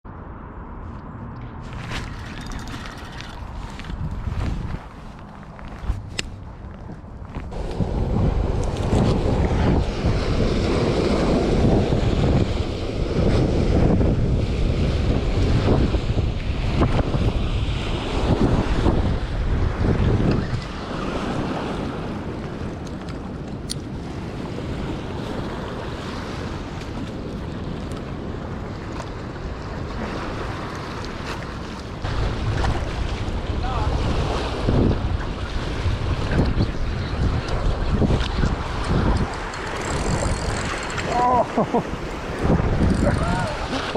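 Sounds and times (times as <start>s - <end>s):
wind buffeting microphone: 1.2s - 43.9s.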